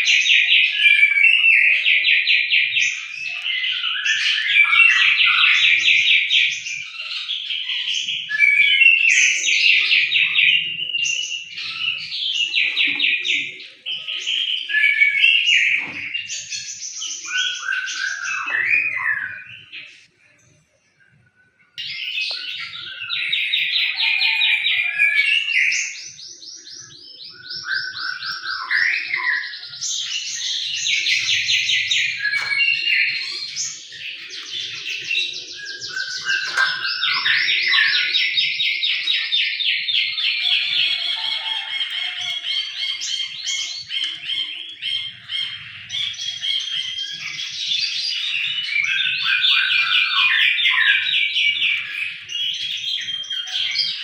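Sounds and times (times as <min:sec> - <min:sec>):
songbird trilling and chirping: 0:00.0 - 0:54.0.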